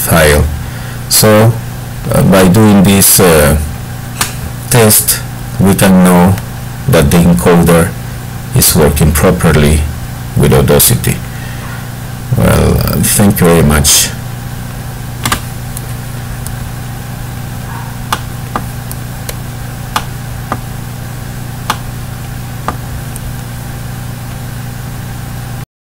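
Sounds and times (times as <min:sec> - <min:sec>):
low electrical hum: 0:00.0 - 0:25.6.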